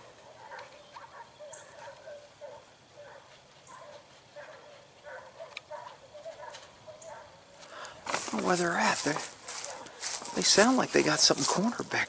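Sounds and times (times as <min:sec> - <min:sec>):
distant dogs barking: 0:00.0 - 0:12.0.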